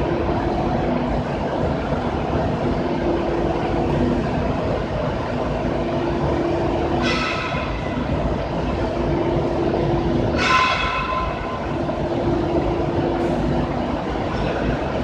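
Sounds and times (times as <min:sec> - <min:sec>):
machine mechanical rumble: 0:00.0 - 0:15.0.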